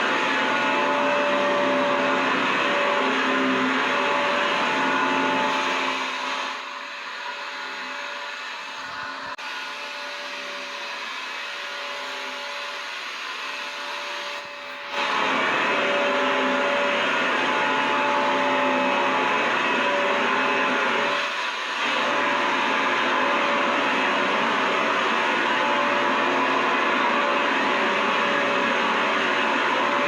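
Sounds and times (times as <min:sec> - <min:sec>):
vacuum cleaner motor running: 0:00.0 - 0:30.0.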